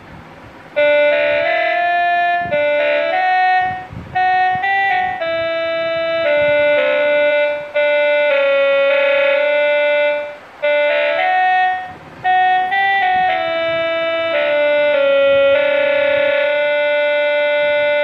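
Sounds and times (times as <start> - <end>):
electronic keyboard slow melody: 0.0 - 18.0.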